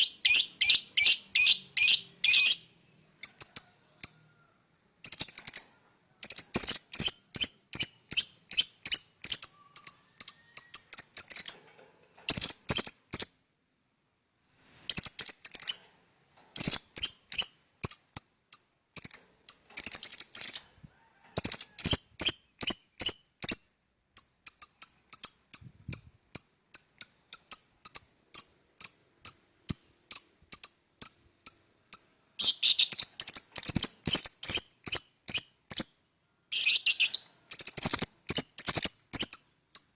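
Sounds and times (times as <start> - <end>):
lovebird chirping: 0.0 - 4.4, 5.0 - 11.7, 12.3 - 13.4, 14.8 - 15.9, 16.6 - 20.8, 21.4 - 39.9.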